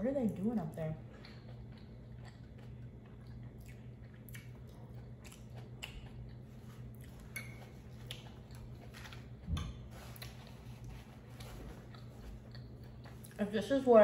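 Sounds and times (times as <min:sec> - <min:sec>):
close chewing with mouth clicks: 0:01.0 - 0:13.5.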